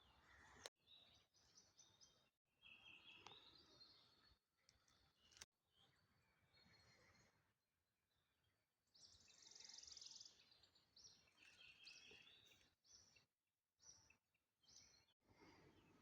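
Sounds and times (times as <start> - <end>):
bird chirping: 0.0 - 7.4, 8.1 - 16.0.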